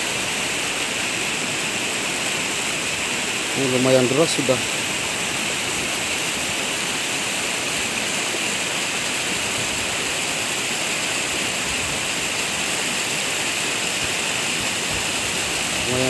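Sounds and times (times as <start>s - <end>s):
mudflow rushing down riverbed: 0.0s - 16.0s.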